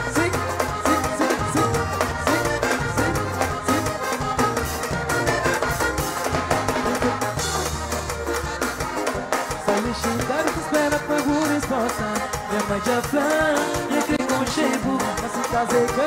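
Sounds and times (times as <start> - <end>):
live band playing dance beat: 0.0 - 16.0.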